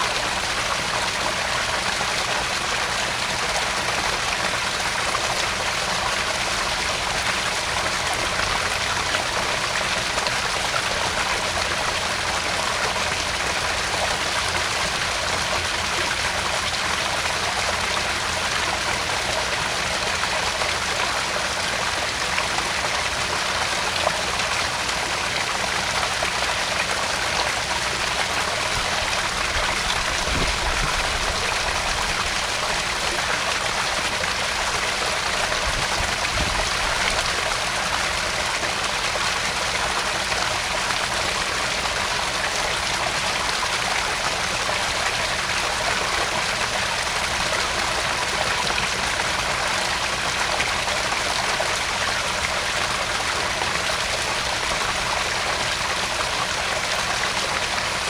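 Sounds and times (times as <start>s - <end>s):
waterfall splashing into pond: 0.0s - 58.0s.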